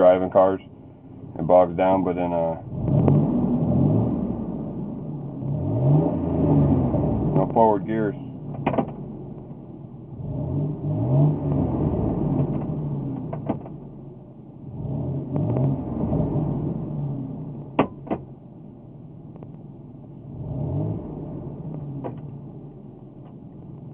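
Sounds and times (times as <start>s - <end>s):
pickup engine revving: 0.0s - 18.5s, 20.2s - 23.9s.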